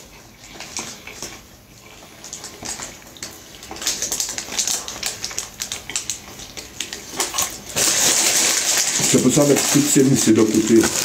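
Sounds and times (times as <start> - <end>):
paper wrapper crinkling: 2.1 - 11.0.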